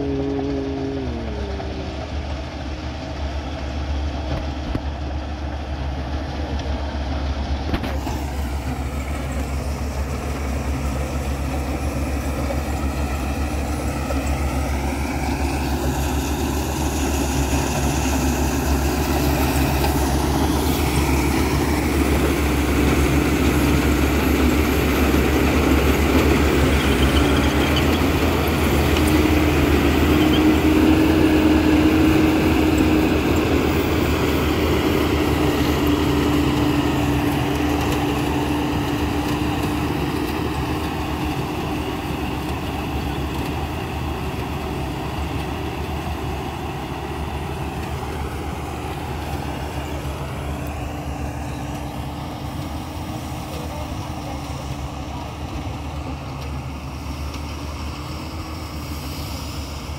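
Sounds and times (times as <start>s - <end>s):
combine harvester diesel engine drone: 0.0s - 59.9s.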